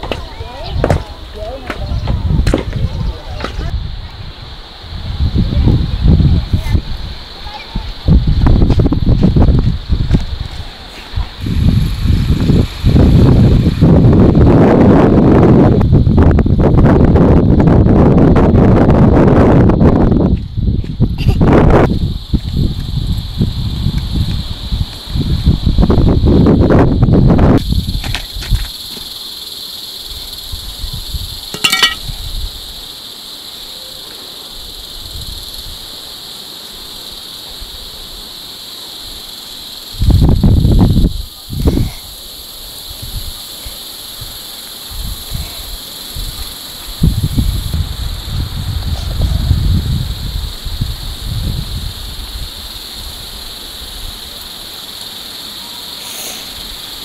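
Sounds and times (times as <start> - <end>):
wind rumble on microphone: 0.0 - 28.8, 30.0 - 32.8, 34.6 - 35.9, 39.7 - 54.2
insects chirring: 0.0 - 57.0
steady high-pitched hiss: 0.0 - 57.0.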